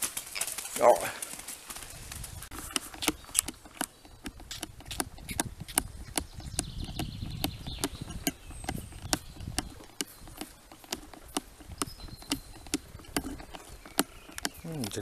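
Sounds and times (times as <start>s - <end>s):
calf sucking and gulping: 2.5s - 15.0s.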